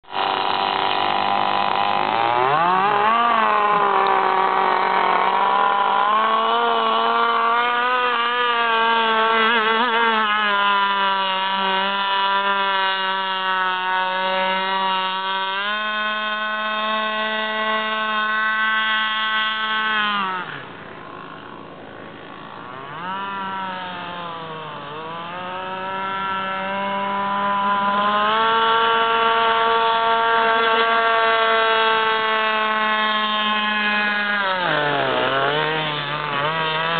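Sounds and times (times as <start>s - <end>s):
rc boat two-stroke engine: 0.0s - 36.9s.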